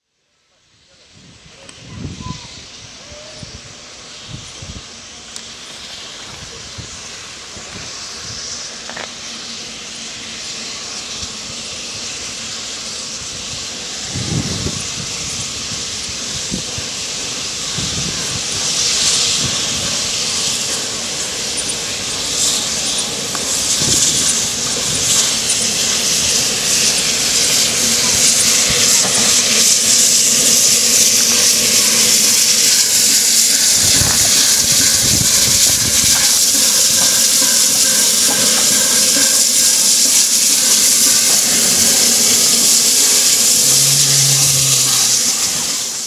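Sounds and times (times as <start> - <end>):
steam locomotive hissing: 0.0 - 46.0.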